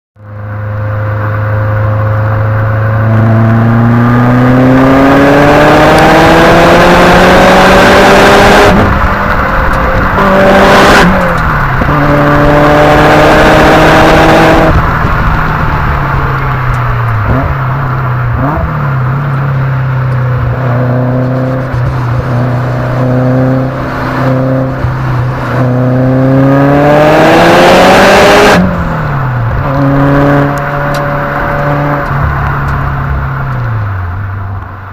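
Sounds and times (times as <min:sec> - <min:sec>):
car engine revving under load: 0:00.2 - 0:34.9.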